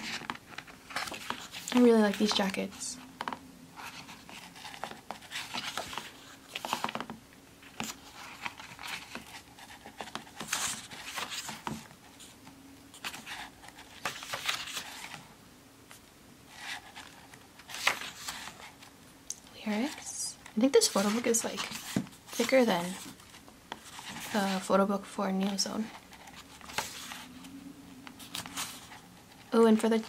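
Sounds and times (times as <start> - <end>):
book pages being turned: 0.0 - 15.3, 15.9 - 18.9, 19.6 - 30.0.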